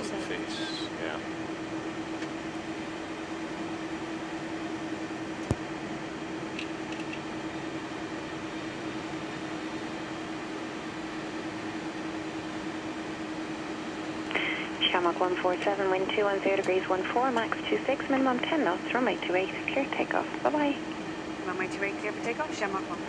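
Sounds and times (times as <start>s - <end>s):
cockpit hiss and low hum: 0.0s - 23.0s.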